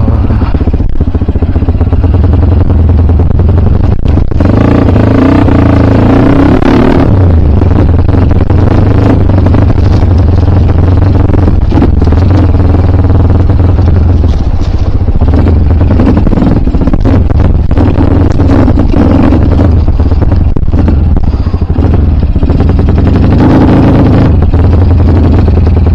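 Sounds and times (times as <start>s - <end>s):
dirt bike engine running: 0.0s - 25.9s.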